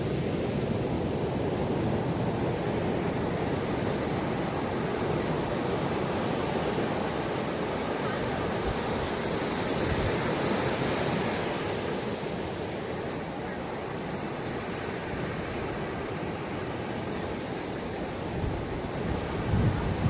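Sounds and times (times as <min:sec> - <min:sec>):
ocean surf washing ashore: 0:00.0 - 0:20.0.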